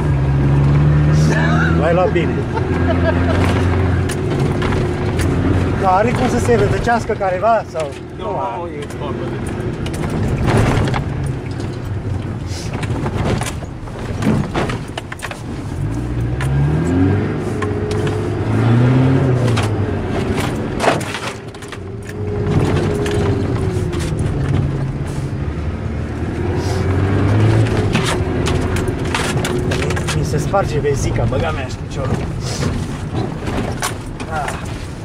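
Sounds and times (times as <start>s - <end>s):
diesel engine revving: 0.0s - 12.8s, 15.6s - 34.7s
body and suspension rattles: 0.0s - 16.6s, 19.4s - 35.0s.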